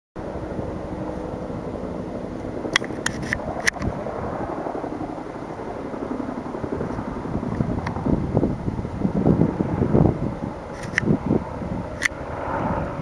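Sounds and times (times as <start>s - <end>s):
distant helicopter drone: 0.2s - 13.0s
outdoor rumble: 0.2s - 13.0s.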